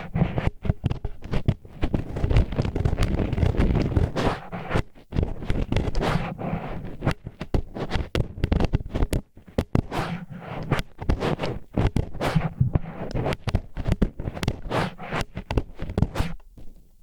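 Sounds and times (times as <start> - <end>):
chopsticks scraping a microphone: 0.0 - 16.8.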